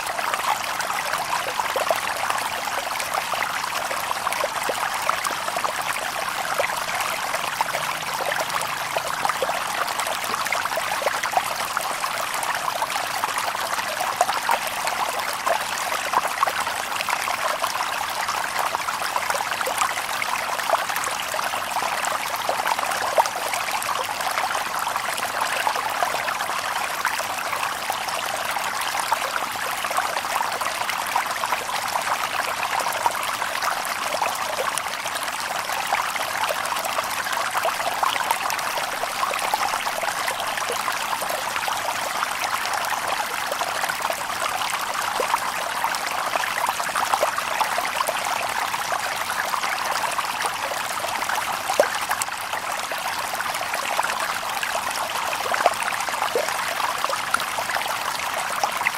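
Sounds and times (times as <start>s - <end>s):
river babbling over stones: 0.0s - 58.9s.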